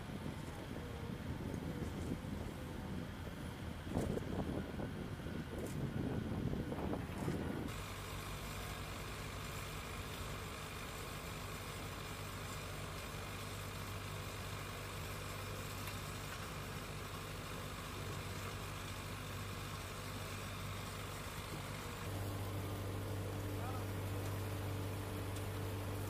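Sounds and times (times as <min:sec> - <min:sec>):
heavy equipment engine running: 0:00.0 - 0:26.0.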